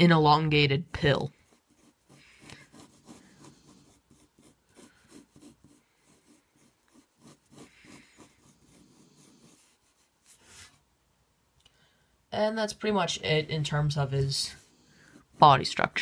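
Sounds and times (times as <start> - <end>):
pencil scratching on paper: 0.6 - 10.9, 13.3 - 16.0.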